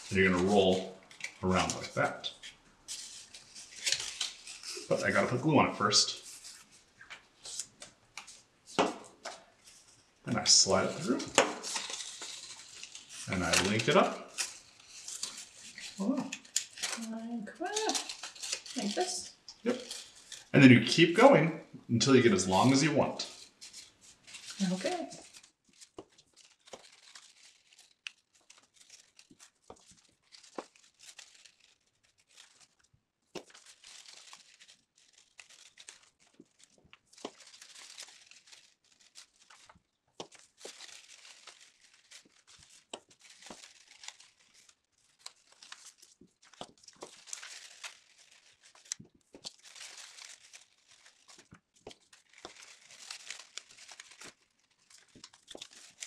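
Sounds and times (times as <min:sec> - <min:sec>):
paper rustling and crinkling: 0:00.0 - 0:21.3, 0:22.1 - 0:56.0.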